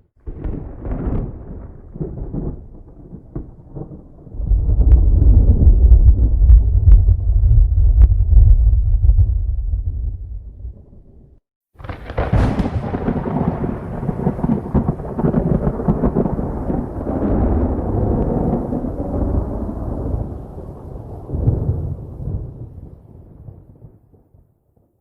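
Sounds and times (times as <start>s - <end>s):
rolling thunder rumble: 0.0s - 24.1s
sharp thunder crack: 0.2s - 11.2s, 11.8s - 22.7s.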